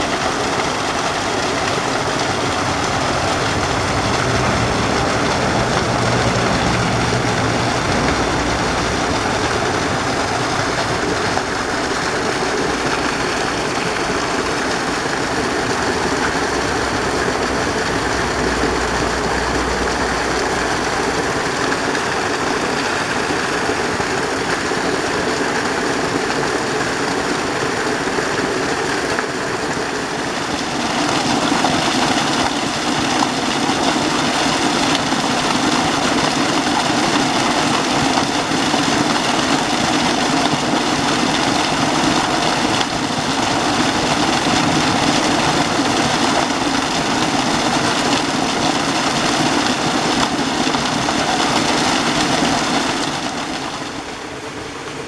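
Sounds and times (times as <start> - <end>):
small waterfall splashing on stones: 0.0 - 54.1.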